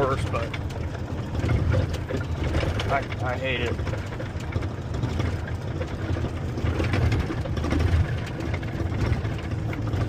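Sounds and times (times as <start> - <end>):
diesel engine droning: 0.0 - 10.0
road and cab noise: 0.0 - 10.0.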